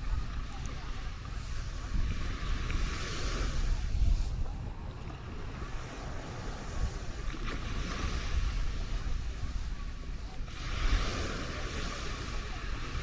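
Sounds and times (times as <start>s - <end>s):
small waves washing onto shore: 0.0s - 13.0s
wind rumbling on microphone: 0.0s - 13.0s.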